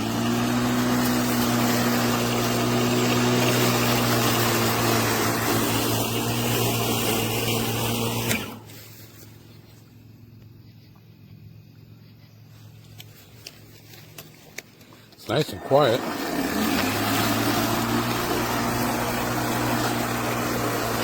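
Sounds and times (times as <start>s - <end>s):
blade hissing through grass: 0.0s - 9.9s, 12.4s - 21.0s
lawn mower motor hum: 0.0s - 10.0s, 12.8s - 21.0s.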